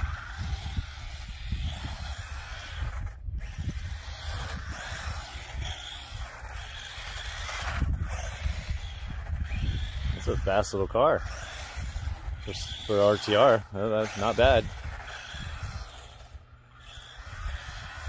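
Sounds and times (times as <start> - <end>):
rc truck motor whirring: 0.0 - 18.0.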